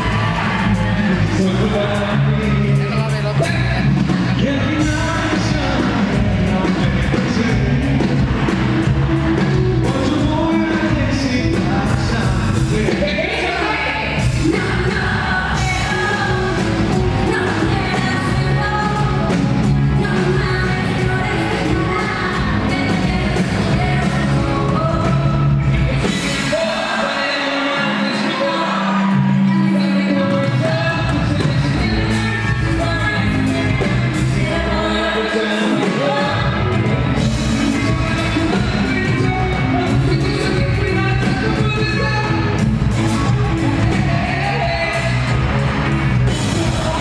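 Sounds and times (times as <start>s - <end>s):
steady drum beat: 0.0s - 29.2s, 30.4s - 47.0s
lead singer singing: 0.0s - 47.0s
pop-rock band playing live: 0.0s - 47.0s.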